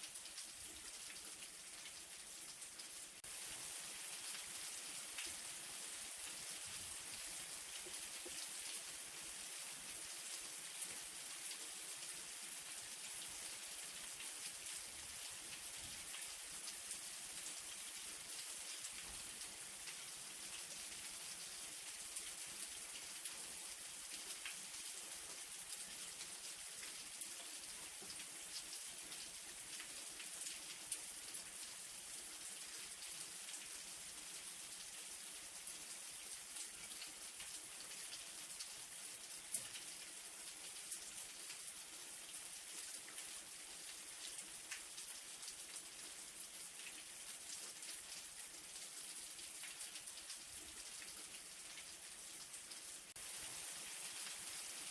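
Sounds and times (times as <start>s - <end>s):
light rain falling: 0.0s - 54.9s.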